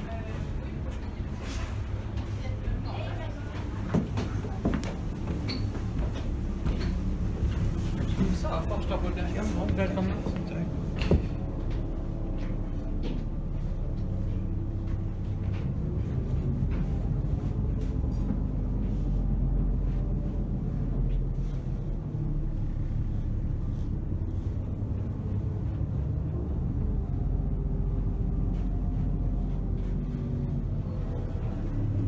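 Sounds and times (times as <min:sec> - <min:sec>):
steamship low rumble: 0:00.0 - 0:32.0.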